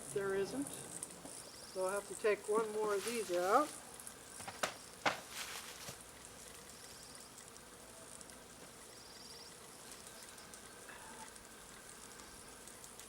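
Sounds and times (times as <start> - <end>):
faint insect sounds: 0.0 - 13.0.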